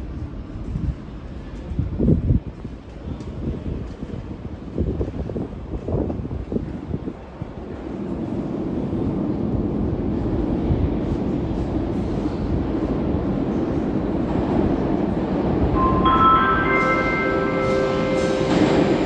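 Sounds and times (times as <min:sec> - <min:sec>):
metro train rumble: 0:00.0 - 0:19.0.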